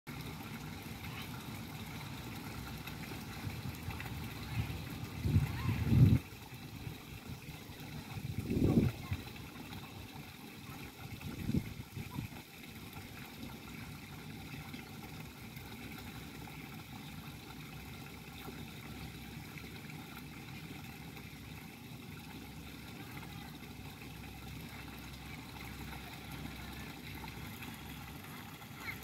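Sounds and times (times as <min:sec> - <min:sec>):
water trickling into pool: 0:00.1 - 0:29.0.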